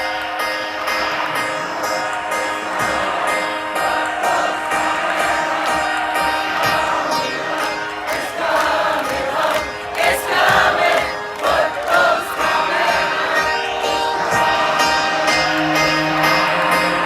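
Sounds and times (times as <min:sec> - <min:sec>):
crowd voices: 0:00.0 - 0:17.0.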